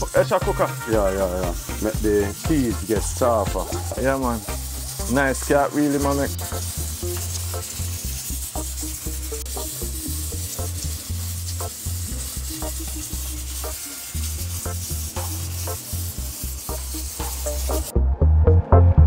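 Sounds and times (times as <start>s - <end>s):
background music with bass: 0.0s - 19.0s
water boiling in a pot: 1.5s - 17.9s.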